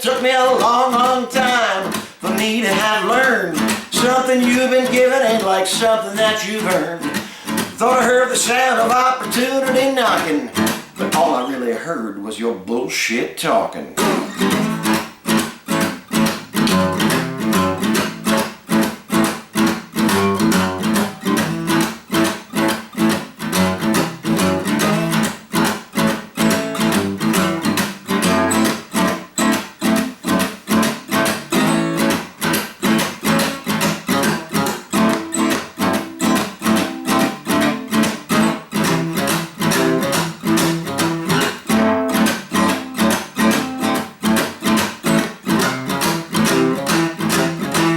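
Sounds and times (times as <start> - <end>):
acoustic guitar strumming: 0.0 - 12.2, 13.5 - 47.9.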